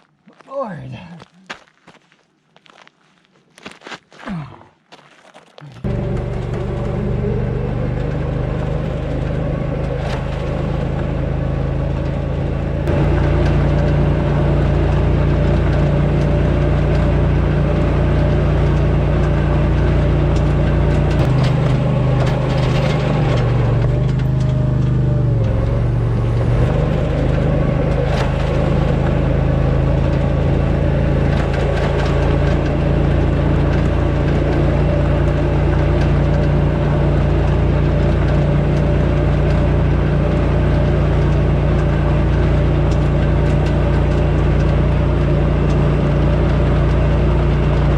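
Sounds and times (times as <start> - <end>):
bulldozer engine running: 5.8 - 47.9.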